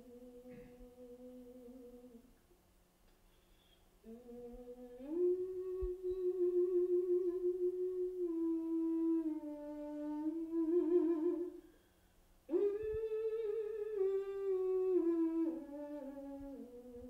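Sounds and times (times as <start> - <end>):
person humming a slow melody: 0.0 - 2.5, 3.4 - 11.9, 12.5 - 17.0.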